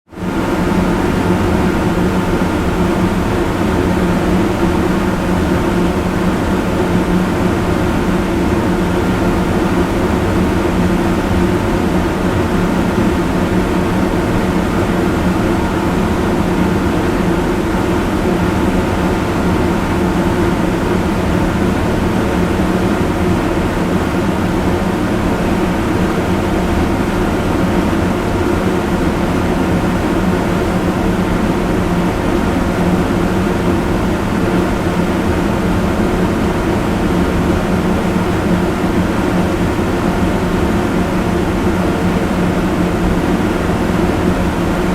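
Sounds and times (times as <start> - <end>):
electric fan running: 0.1 - 44.9.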